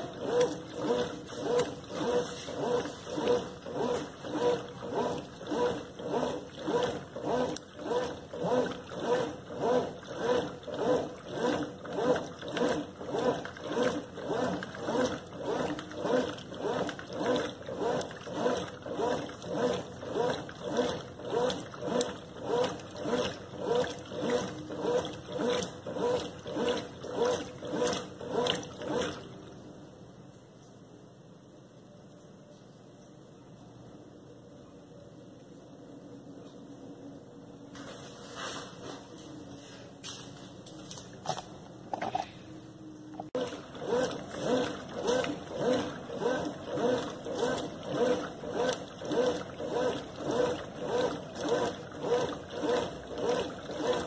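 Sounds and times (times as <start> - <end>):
washing machine agitator swishing: 0.0 - 29.6, 37.7 - 42.2, 43.2 - 54.0.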